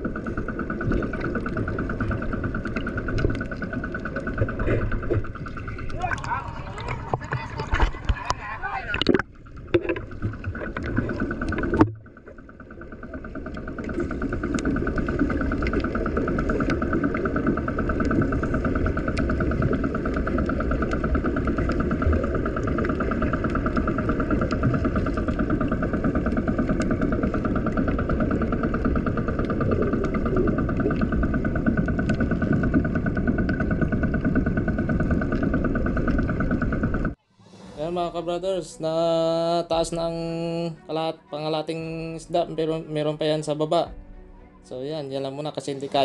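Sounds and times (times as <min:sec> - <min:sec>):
boat engine drone underwater: 0:00.0 - 0:46.0.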